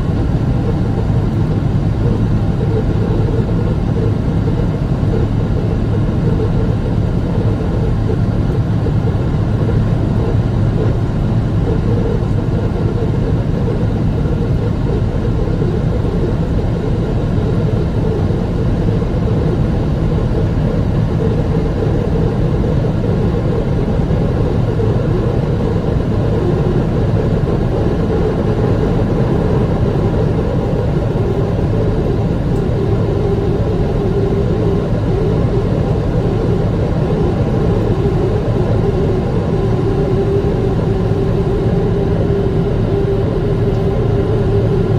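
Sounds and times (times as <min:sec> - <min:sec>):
faint steady hum: 0:00.0 - 0:44.9
jet engines rumbling in cabin: 0:00.0 - 0:44.9.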